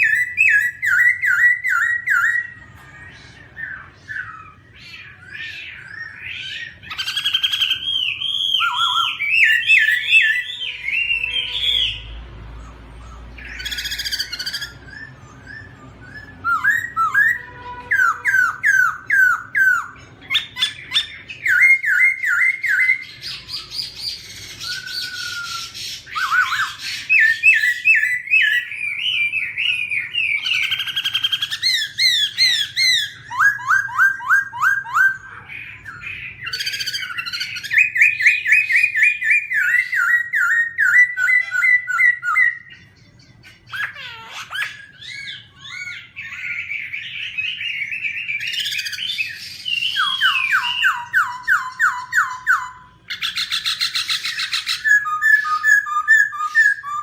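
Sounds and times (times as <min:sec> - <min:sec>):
bird singing whistled phrases: 0:00.0 - 0:57.0.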